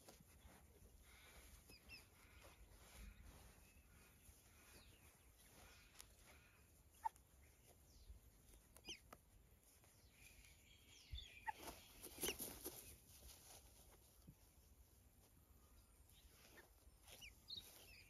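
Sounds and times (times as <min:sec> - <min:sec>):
faint bird chirps: 0:00.0 - 0:13.3, 0:15.4 - 0:18.0.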